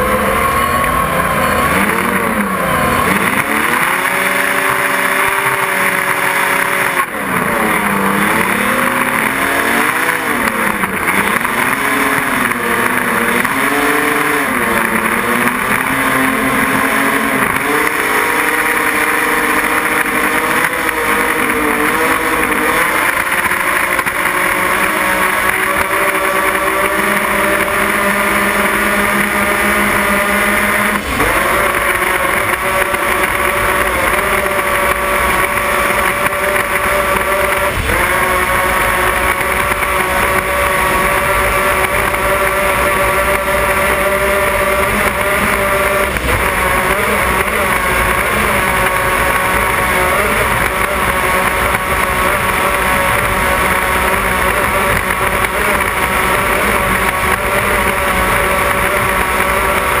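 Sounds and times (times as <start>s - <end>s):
powerboat engines at full speed: 0.0s - 60.0s.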